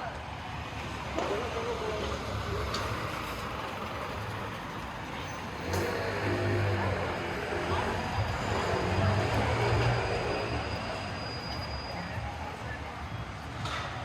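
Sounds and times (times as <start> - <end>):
faint voices: 0.0 - 14.0
traffic noise: 0.0 - 14.0
vehicle engine rumble: 0.0 - 14.0.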